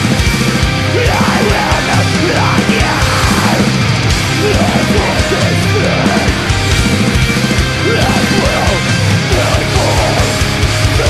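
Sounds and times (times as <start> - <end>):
heavy distorted guitars: 0.0 - 11.0
rapid kick drum beats: 0.0 - 11.0.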